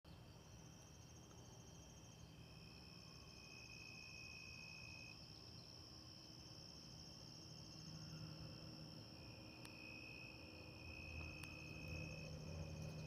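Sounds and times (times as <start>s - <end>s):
insects trilling: 0.1s - 13.0s.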